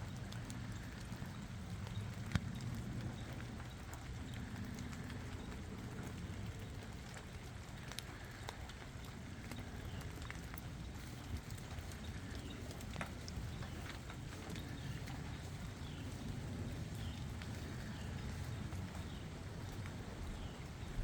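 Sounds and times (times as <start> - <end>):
drops ticking: 0.0 - 21.0
rain falling: 0.0 - 21.0.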